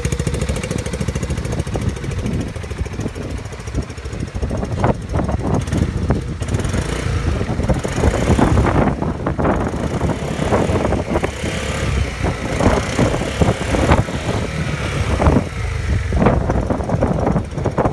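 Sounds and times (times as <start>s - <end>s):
scooter engine running: 0.0s - 17.9s.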